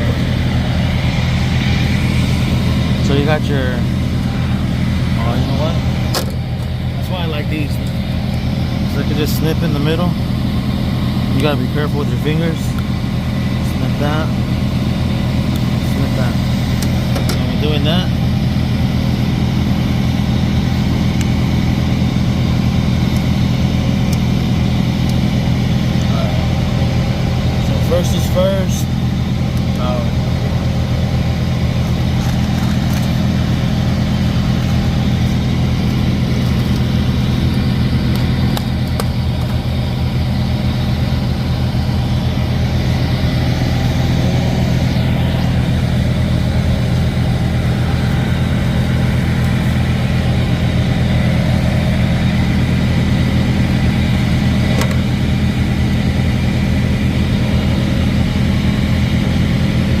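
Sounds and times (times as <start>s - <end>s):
diesel truck engine idling: 0.0s - 60.0s.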